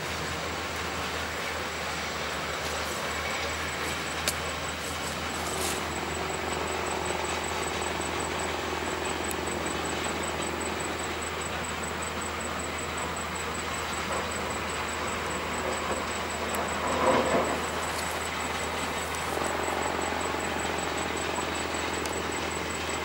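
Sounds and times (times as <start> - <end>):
rail trolley engine hum: 0.0 - 23.0.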